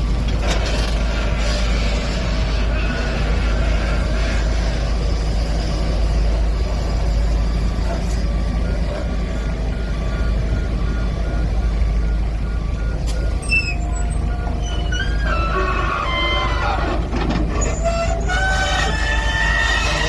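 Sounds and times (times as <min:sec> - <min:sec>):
diesel engine deep rumble: 0:00.0 - 0:20.0
reversing alarm beeping: 0:01.6 - 0:20.0.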